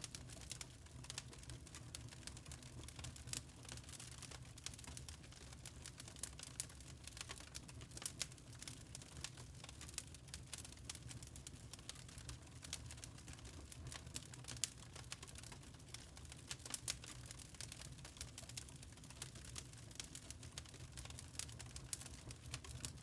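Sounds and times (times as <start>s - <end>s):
burning charcoal crackling: 0.0s - 23.0s.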